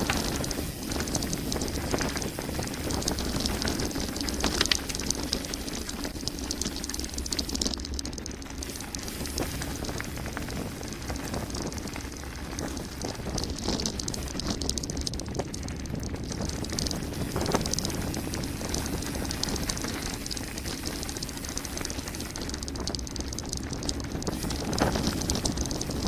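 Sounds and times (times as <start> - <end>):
bike rattling: 0.0 - 26.0.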